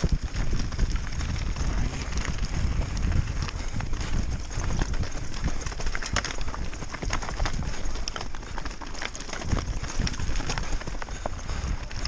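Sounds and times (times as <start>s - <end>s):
bike frame and chain rattling: 0.0s - 12.0s
wind buffeting microphone: 0.0s - 12.0s.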